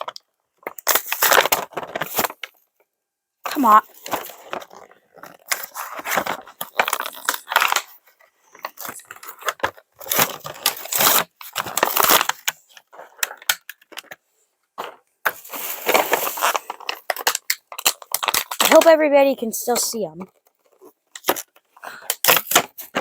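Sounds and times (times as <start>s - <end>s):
plastic packaging crinkling and tearing: 0.0s - 2.6s, 3.5s - 14.2s, 14.8s - 19.0s, 19.6s - 23.0s.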